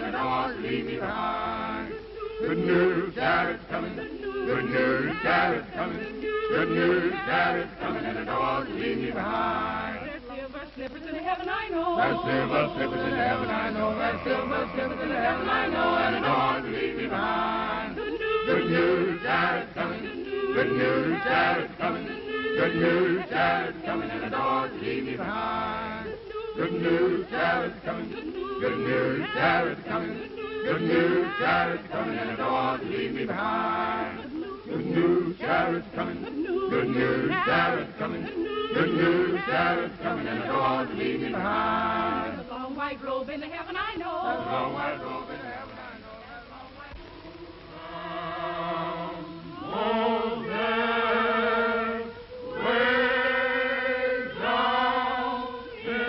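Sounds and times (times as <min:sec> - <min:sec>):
choir singing: 0:00.0 - 0:46.5, 0:47.6 - 0:56.0.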